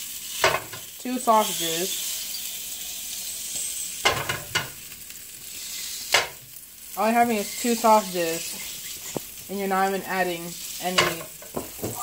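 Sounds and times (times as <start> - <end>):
sausages sizzling in a frying pan: 0.0 - 12.0.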